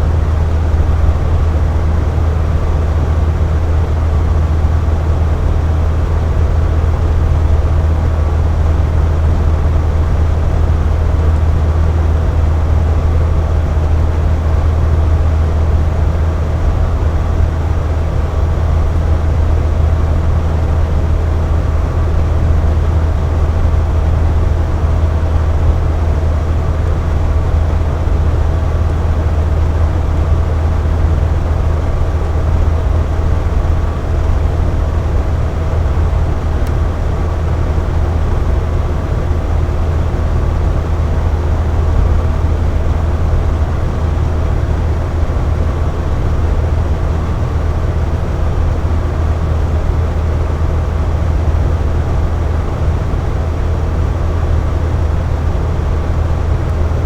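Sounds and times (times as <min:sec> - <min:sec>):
box fan running: 0:00.0 - 0:57.0.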